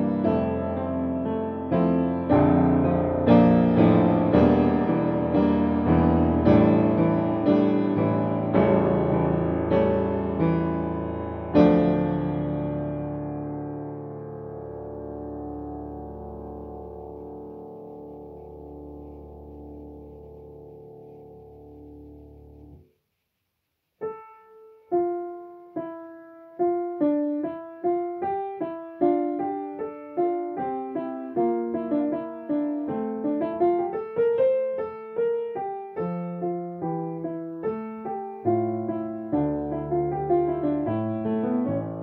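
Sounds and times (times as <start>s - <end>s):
grand piano playing: 0.0s - 22.8s, 24.0s - 42.0s.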